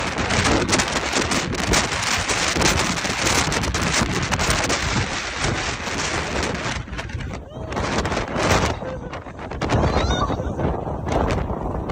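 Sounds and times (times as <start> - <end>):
strong wind buffeting microphone: 0.0 - 11.9.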